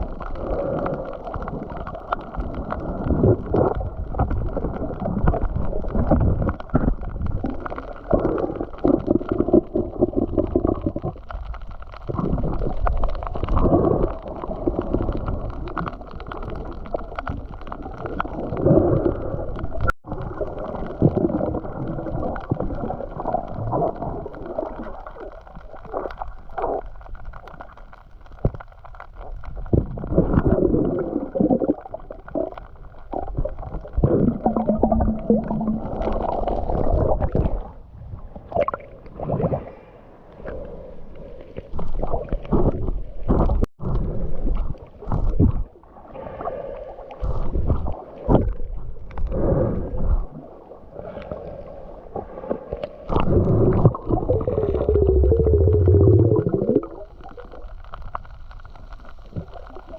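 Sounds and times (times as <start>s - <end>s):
underwater gurgling and sloshing: 0.0s - 59.9s.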